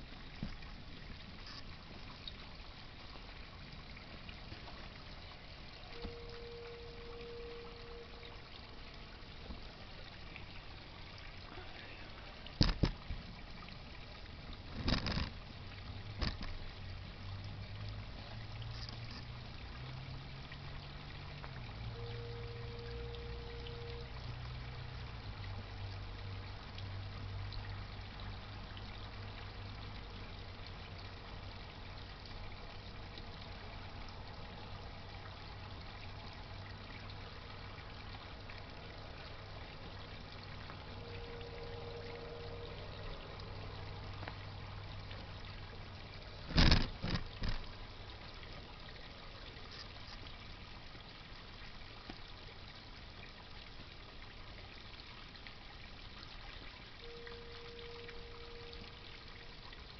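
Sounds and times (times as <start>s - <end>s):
low pump hum: 0.0s - 59.9s
water trickling and splashing: 0.0s - 59.9s.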